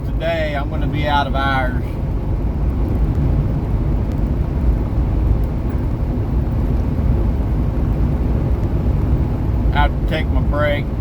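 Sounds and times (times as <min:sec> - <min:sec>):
road rumble: 0:00.0 - 0:11.0
truck engine rumble: 0:00.0 - 0:11.0.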